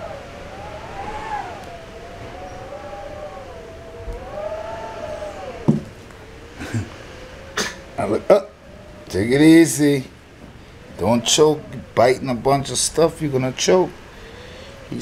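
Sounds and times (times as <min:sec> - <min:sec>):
siren wailing: 0:00.0 - 0:13.9.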